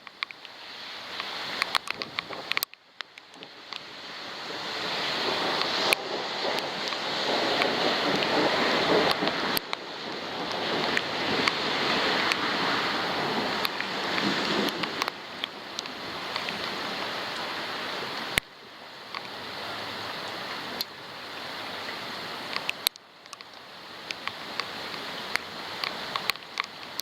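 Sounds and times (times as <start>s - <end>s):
rain and gusting wind: 0.0s - 27.0s
raindrops ticking on camera housing: 0.0s - 27.0s.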